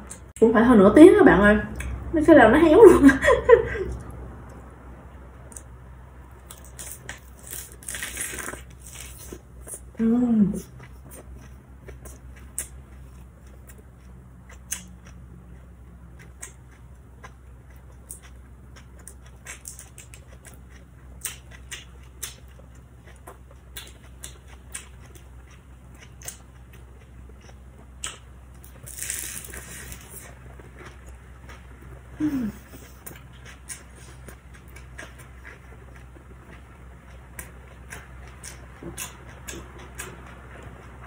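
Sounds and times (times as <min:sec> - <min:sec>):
low hum: 0:00.0 - 0:41.0
crunchy food being chewed: 0:05.4 - 0:41.0.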